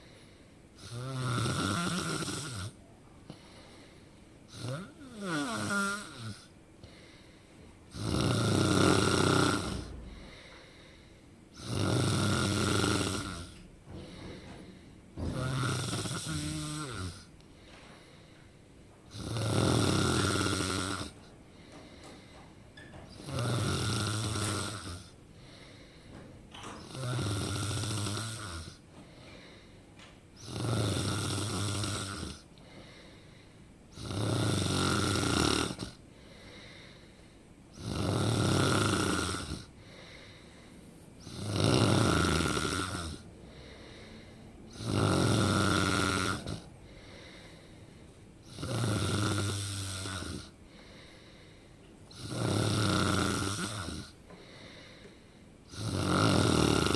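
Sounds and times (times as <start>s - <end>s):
person snoring: 0.8s - 3.9s, 4.5s - 7.3s, 7.9s - 17.3s, 19.1s - 21.3s, 23.1s - 26.0s, 26.6s - 28.8s, 30.4s - 47.7s, 48.4s - 51.5s, 52.1s - 55.1s, 55.7s - 56.9s.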